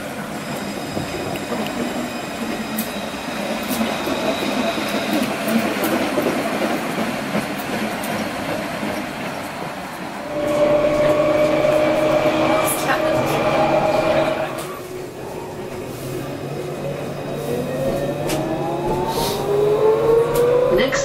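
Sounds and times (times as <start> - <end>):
tram humming: 0.0 - 21.0
tram wheels rumbling on rails: 0.0 - 21.0.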